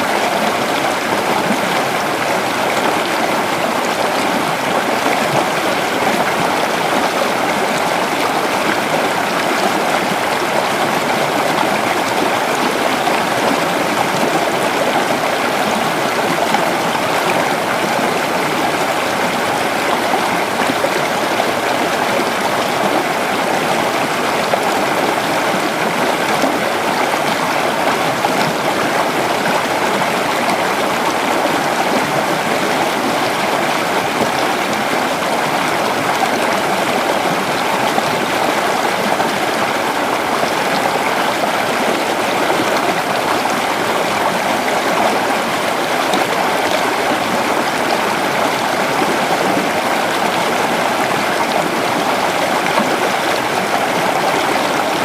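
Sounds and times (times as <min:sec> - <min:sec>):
creek water burbling over stones: 0:00.0 - 0:55.0.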